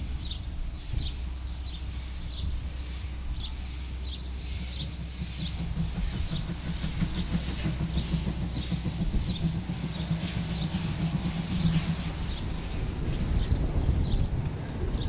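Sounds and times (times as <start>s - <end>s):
drain cocks blowing steam: 0.0s - 13.4s
steam locomotive chuffing: 0.0s - 15.0s.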